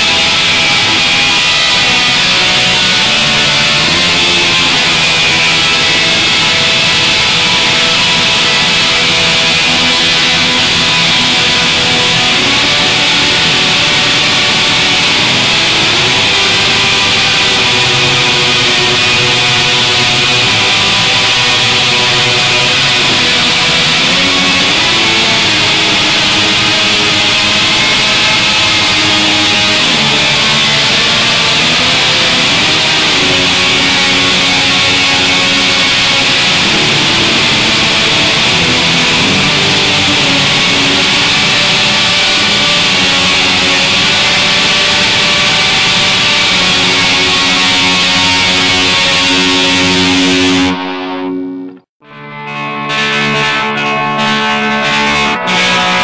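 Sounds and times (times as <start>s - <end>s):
guitar instrumental music: 0.0s - 56.0s.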